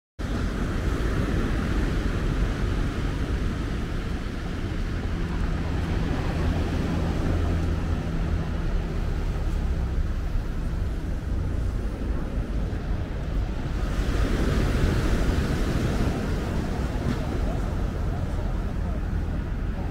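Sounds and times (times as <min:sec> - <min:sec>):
low engine drone: 0:00.2 - 0:19.9
waves washing onto pebble beach: 0:00.2 - 0:19.9.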